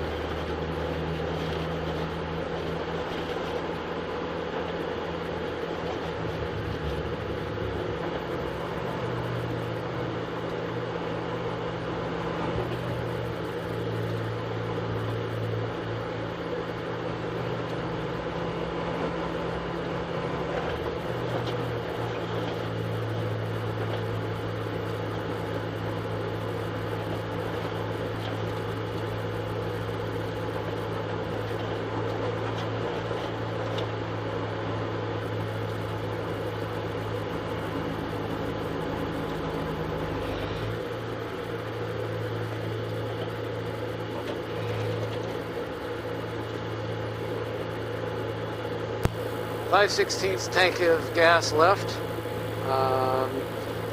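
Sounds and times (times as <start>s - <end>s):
race car engine droning: 0.0s - 53.9s.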